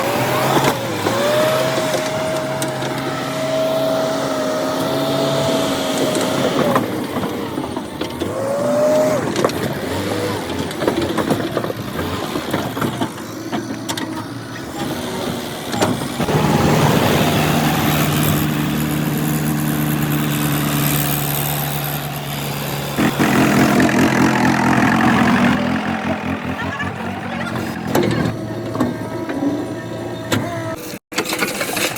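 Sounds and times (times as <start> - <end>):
heavy diesel machinery running: 0.0 - 31.9.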